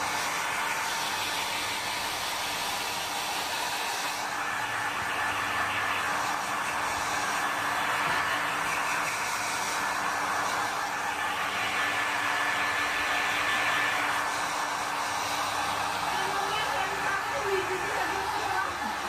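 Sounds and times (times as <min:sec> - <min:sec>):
blow dryer rushing air: 0:00.0 - 0:19.0.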